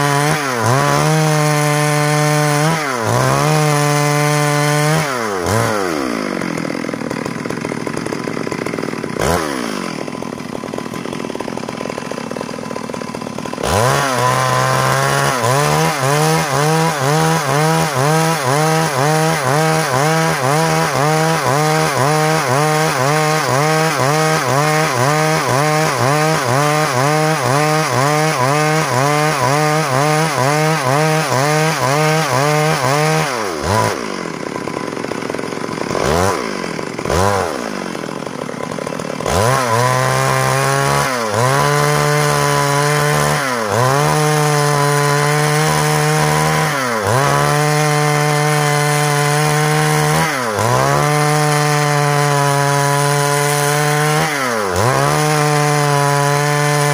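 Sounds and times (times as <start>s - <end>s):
chainsaw cutting log: 0.0s - 56.9s
chainsaw idling with throttle blips: 0.0s - 56.9s.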